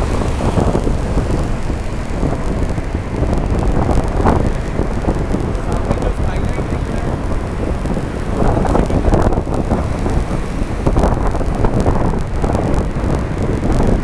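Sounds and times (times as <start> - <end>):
car road and engine noise: 0.0 - 14.0
wind buffeting microphone: 0.0 - 14.0.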